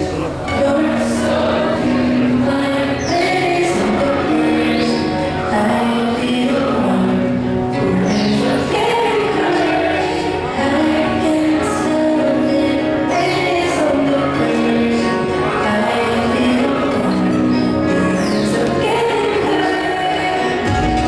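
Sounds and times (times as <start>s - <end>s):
layered keyboard chords: 0.0s - 21.0s
woman singing: 0.0s - 21.0s.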